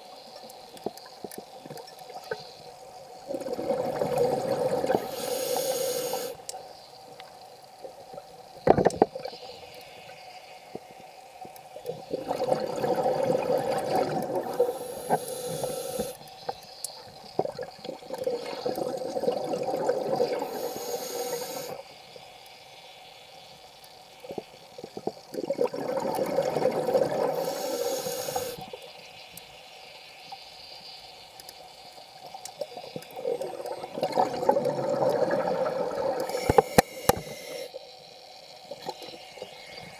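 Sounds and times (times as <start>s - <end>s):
exhaled air bubbling underwater: 0.9s - 6.6s, 7.7s - 21.9s, 24.2s - 29.2s, 30.0s - 39.9s.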